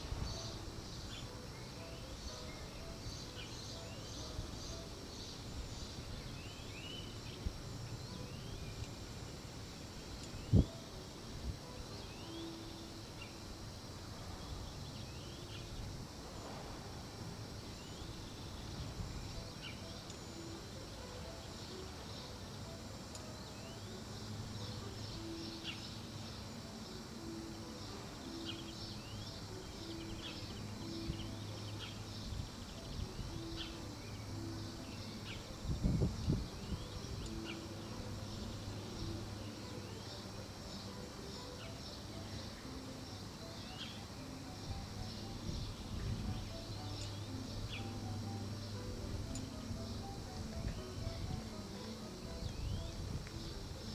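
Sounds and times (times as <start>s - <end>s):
birds chirping: 0.0s - 53.9s
insects buzzing: 0.0s - 53.9s.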